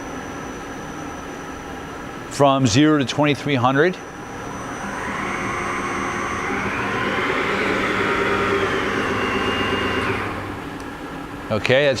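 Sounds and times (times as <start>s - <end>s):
lathe running hum and whirr: 0.0s - 12.0s.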